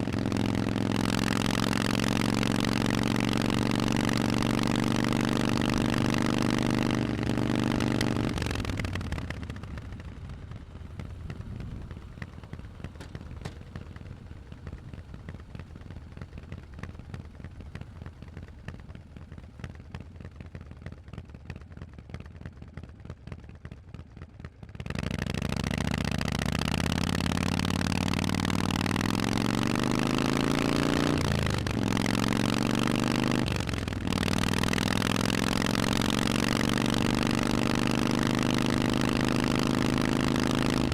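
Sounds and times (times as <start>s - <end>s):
motorcycle engine revving: 0.0s - 21.2s, 24.6s - 40.9s.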